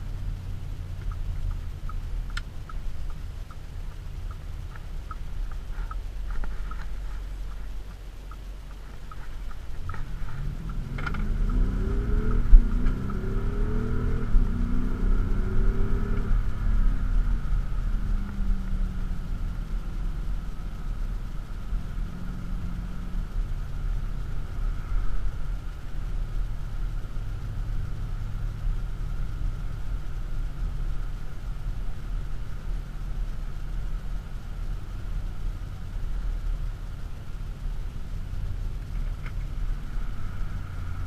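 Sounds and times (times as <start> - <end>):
diesel engine accelerating: 0.0 - 41.0
tyre and road noise: 0.0 - 41.0.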